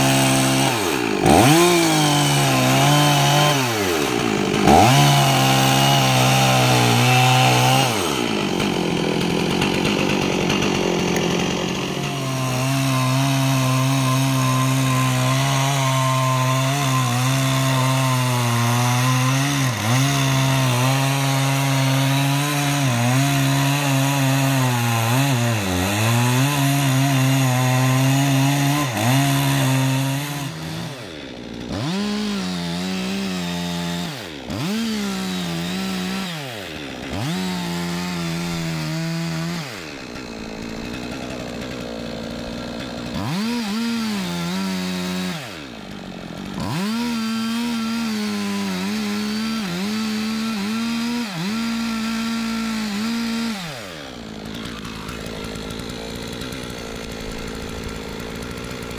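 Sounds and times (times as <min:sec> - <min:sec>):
chainsaw cutting and revving: 0:00.0 - 0:58.9.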